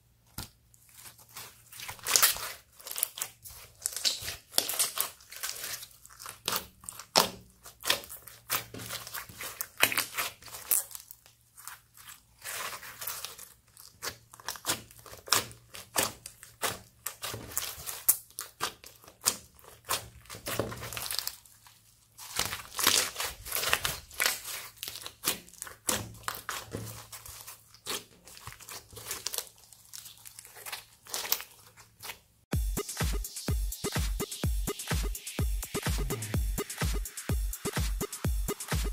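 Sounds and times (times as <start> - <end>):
slime crackling and squelching: 0.2 - 32.5.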